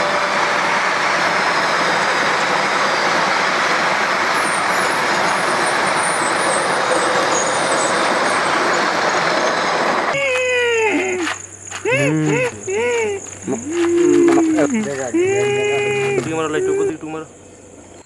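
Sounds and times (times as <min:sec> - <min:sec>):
train wheels rushing on rail: 0:00.0 - 0:17.2.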